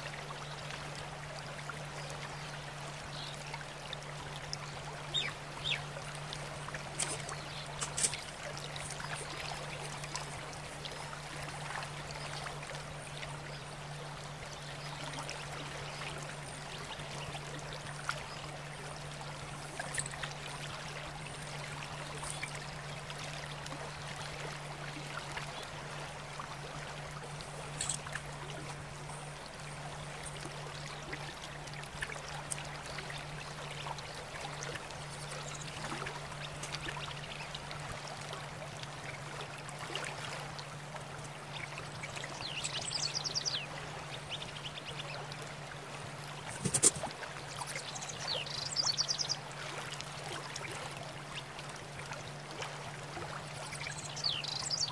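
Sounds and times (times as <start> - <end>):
low hum and hiss: 0.0 - 54.9.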